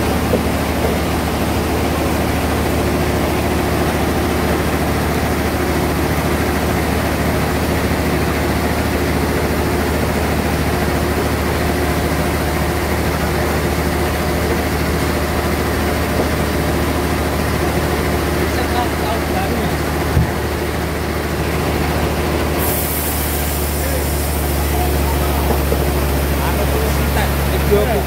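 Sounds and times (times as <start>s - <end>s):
bandsaw machinery humming: 0.0s - 28.0s.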